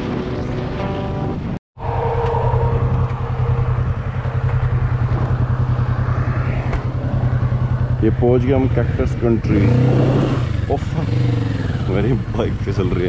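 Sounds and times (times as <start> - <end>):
motorcycle engine at low revs: 2.2 - 13.0.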